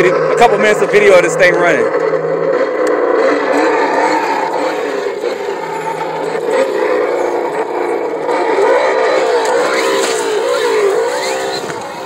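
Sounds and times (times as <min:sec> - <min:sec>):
simulated engine sound: 0:00.0 - 0:12.0.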